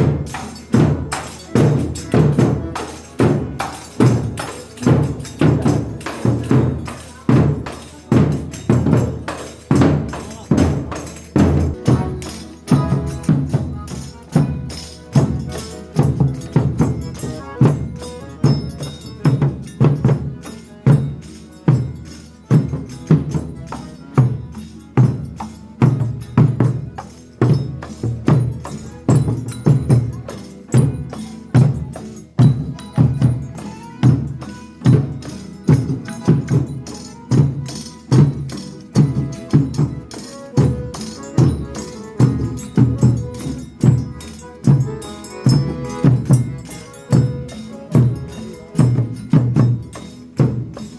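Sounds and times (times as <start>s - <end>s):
tambourine with heavy low beat: 0.0s - 50.9s.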